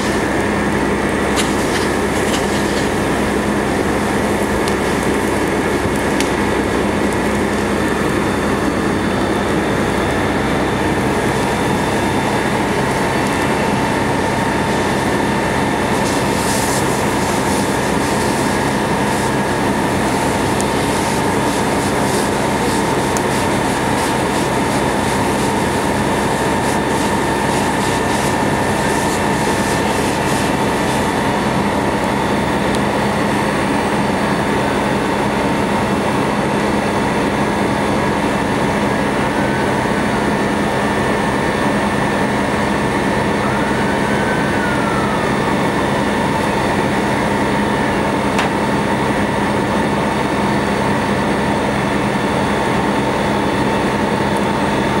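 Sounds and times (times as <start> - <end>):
fire engine pump droning: 0.0 - 55.0.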